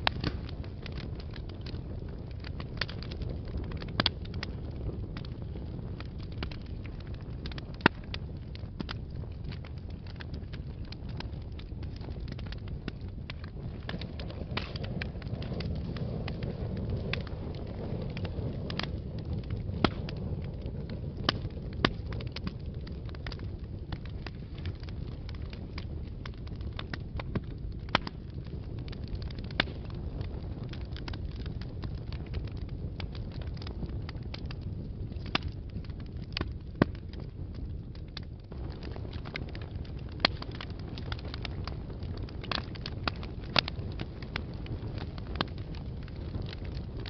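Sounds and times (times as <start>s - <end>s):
fire flames rumbling: 0.0s - 47.0s
wood fire crackles and pops: 0.0s - 47.0s.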